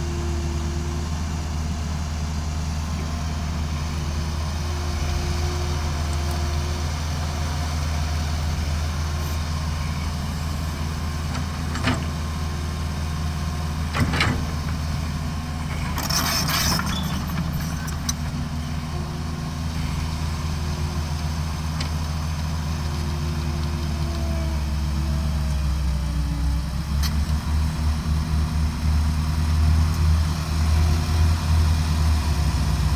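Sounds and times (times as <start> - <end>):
diesel engine humming: 0.0 - 32.9.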